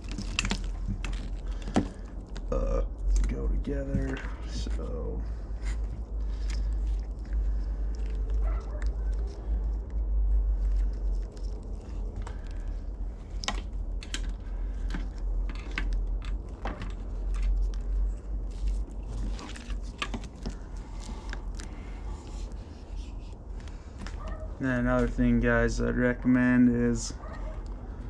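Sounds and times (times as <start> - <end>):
steady low rumble: 0.0 - 28.0
wires and connectors rustling: 0.0 - 28.0.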